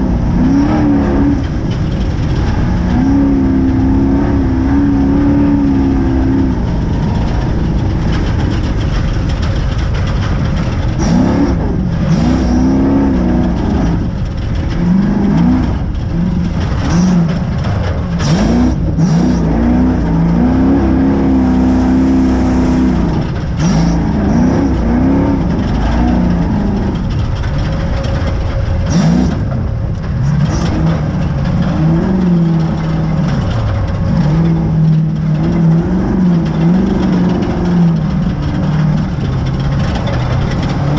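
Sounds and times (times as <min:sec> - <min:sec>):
rough rumble of moving truck: 0:00.0 - 0:40.9
truck engine revving: 0:00.0 - 0:40.9.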